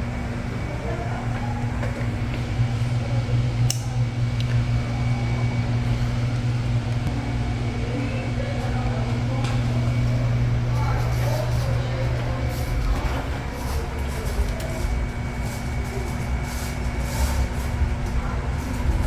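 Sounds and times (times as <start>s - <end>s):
fan motor humming with air rush: 0.0s - 19.0s.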